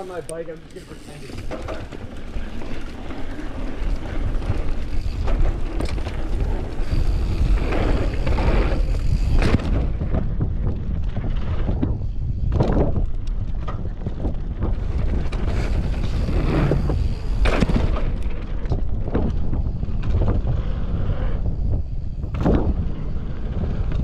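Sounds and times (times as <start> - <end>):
bike tyres rumbling over dirt: 0.0 - 24.0
wind buffeting microphone: 0.0 - 24.0
bike knocks and rattles: 1.1 - 20.7.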